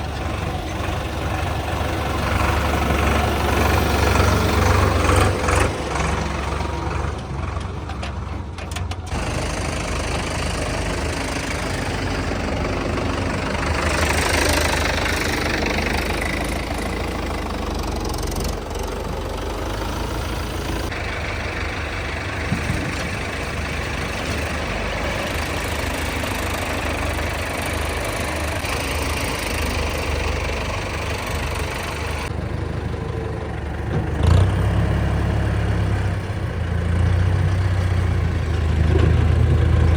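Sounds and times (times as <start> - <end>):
diesel tractor engine droning: 0.0 - 39.9.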